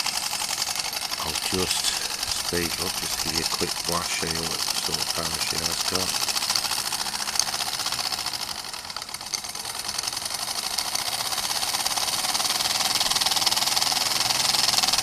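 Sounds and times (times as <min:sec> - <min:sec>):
model steam engine running: 0:00.0 - 0:15.0.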